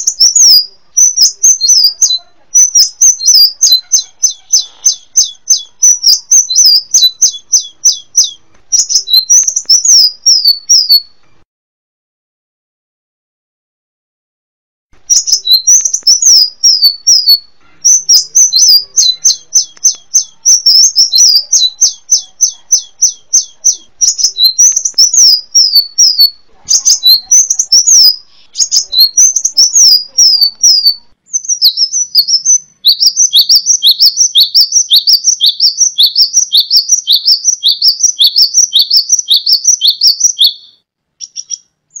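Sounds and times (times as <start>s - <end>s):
sunbird singing: 0.0s - 11.4s, 15.0s - 42.0s.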